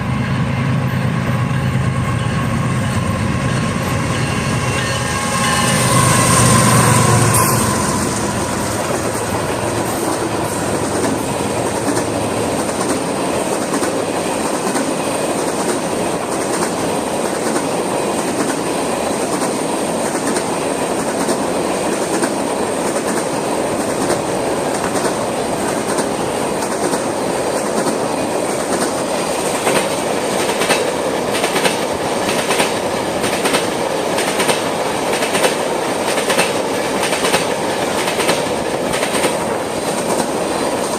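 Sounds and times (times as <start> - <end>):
steel wheels rumbling on rail: 0.0 - 40.9
clickety-clack over rail joints: 8.0 - 40.9.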